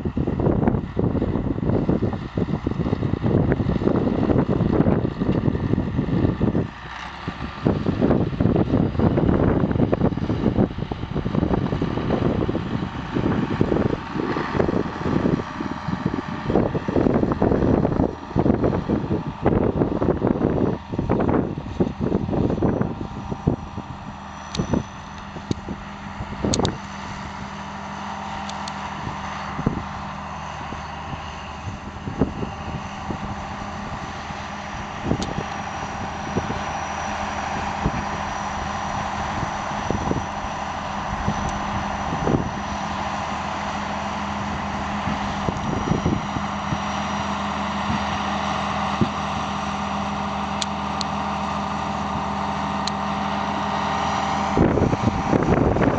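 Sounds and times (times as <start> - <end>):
bulldozer diesel engines: 0.0 - 55.9.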